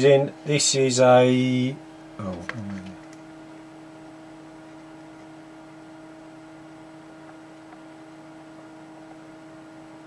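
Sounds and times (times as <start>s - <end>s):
electrical hum with hiss: 0.0s - 10.0s.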